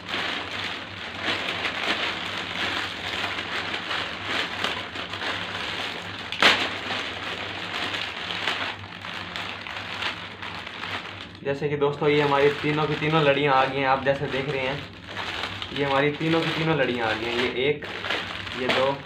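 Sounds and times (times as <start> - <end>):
plastic packet crinkling: 0.0 - 19.0
sharp plastic crackle: 0.0 - 19.0.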